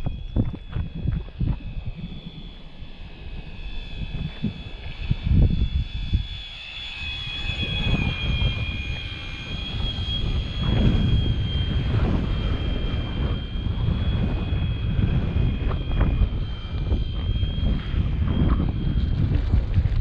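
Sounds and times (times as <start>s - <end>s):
model plane motor whining: 0.0s - 20.0s
wind buffeting microphone: 0.0s - 20.0s.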